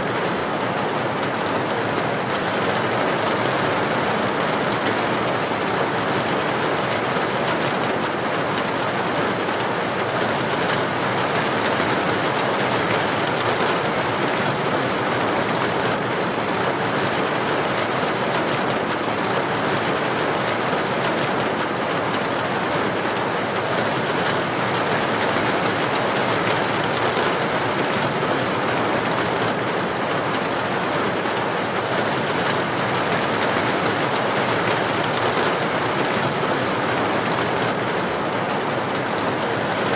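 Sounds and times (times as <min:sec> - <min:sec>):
heavy rain on a street: 0:00.0 - 0:39.9.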